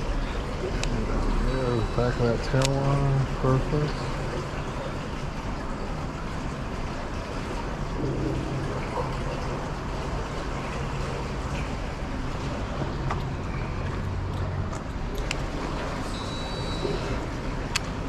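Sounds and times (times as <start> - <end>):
low hum: 0.0 - 18.0
steady rushing outdoor noise: 0.0 - 18.0.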